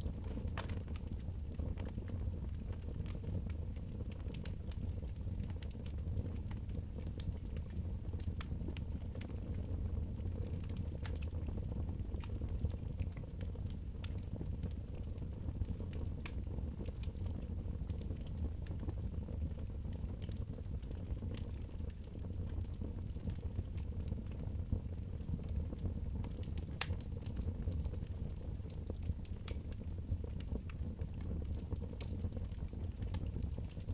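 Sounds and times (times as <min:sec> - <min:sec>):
fire crackling and popping: 0:00.0 - 0:33.9
fire rumbling: 0:00.0 - 0:33.9.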